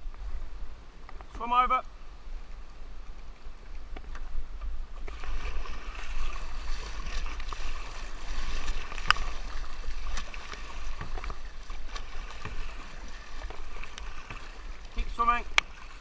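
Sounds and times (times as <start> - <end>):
river water rushing and splashing: 0.1 - 16.0.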